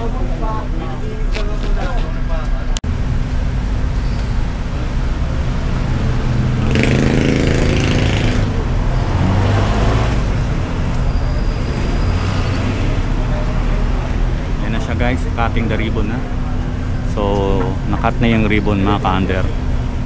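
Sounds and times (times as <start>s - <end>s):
road traffic rumble: 0.0s - 20.0s
vehicle engine passing: 2.9s - 20.0s.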